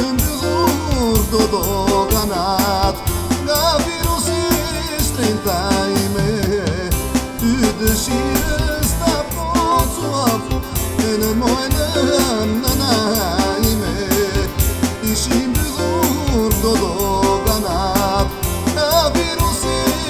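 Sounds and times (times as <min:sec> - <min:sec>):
bass: 0:00.0 - 0:20.0
ornamented melody line: 0:00.0 - 0:20.0
steady drum beat: 0:00.0 - 0:20.0.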